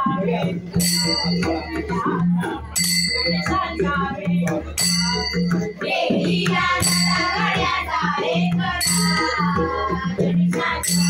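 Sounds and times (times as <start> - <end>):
barrel drum beat: 0.0 - 11.0
hand cymbals ringing: 0.7 - 11.0
women singing together: 1.4 - 11.0.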